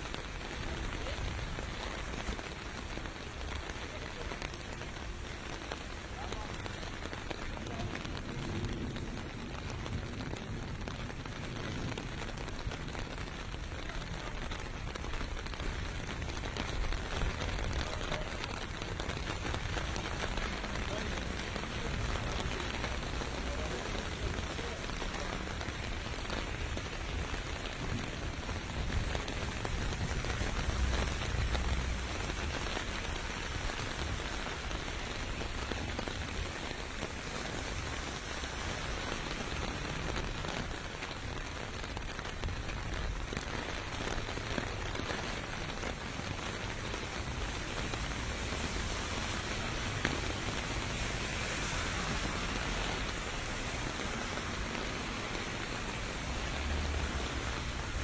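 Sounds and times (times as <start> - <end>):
distant traffic rumble: 0.0 - 58.0
rain pelting on pavement: 0.0 - 58.0.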